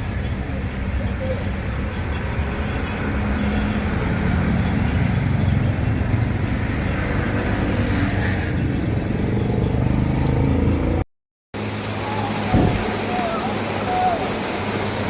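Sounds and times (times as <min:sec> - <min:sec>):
tyre and road noise: 0:00.0 - 0:11.0, 0:11.6 - 0:15.0.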